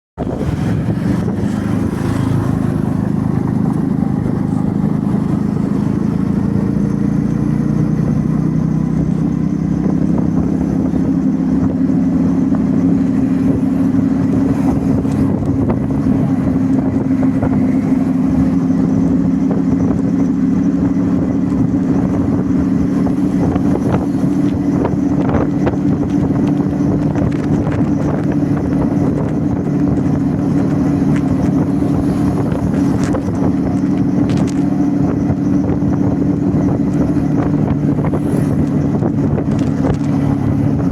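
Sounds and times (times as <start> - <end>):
motorbike engine running: 0.2 - 40.9.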